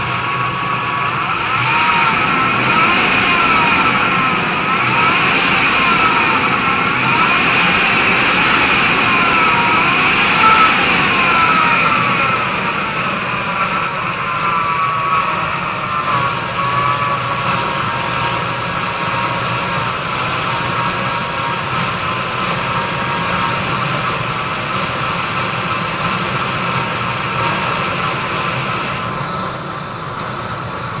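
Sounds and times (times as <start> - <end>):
car engine idling: 0.0 - 31.0
high steady whine: 0.0 - 31.0.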